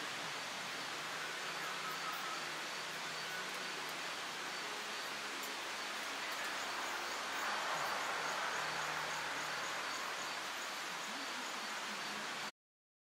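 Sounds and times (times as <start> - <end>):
steady rushing hiss: 0.0 - 12.5.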